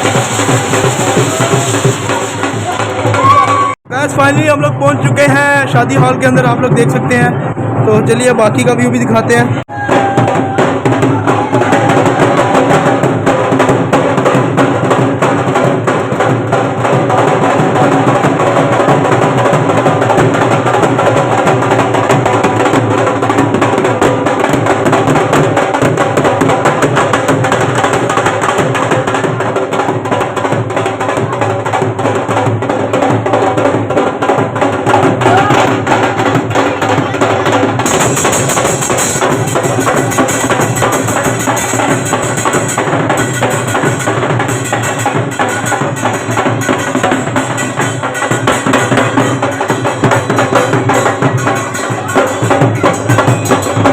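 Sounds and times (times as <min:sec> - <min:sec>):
music with drums and percussion: 0:00.0 - 0:53.9.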